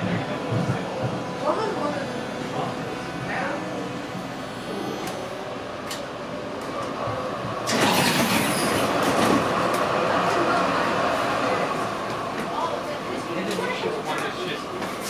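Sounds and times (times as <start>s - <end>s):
tram running noise: 0.0s - 15.0s.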